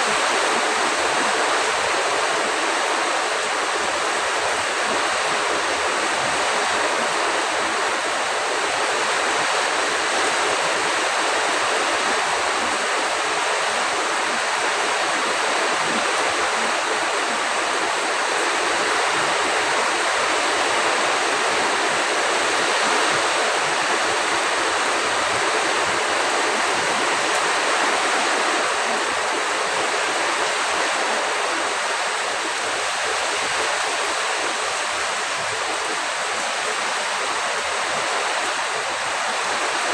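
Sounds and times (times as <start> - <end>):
heavy rain: 0.0 - 39.9
wind: 0.0 - 39.9.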